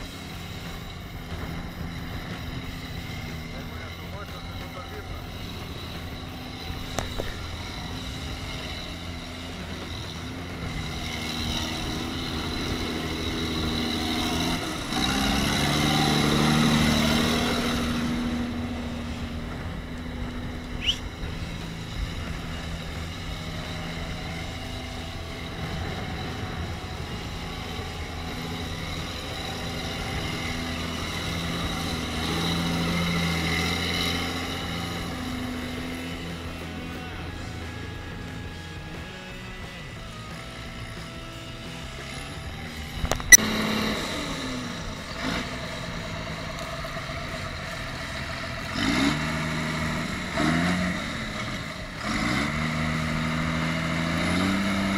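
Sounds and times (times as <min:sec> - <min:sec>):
tractor churning through mud: 0:00.0 - 0:39.4, 0:40.4 - 0:54.9
tractor diesel engine labouring: 0:00.0 - 0:54.9.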